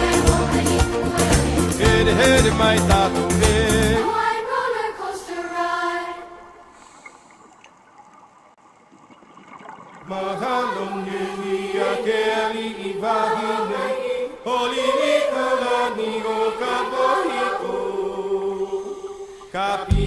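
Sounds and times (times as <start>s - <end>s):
music with sustained chanting voices: 0.0s - 6.9s, 10.1s - 20.0s.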